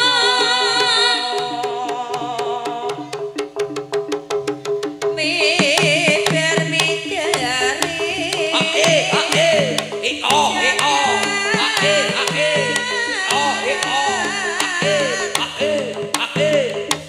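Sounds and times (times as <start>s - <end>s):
pitched percussion notes: 0.0s - 17.0s
quick drum strokes: 0.0s - 17.0s.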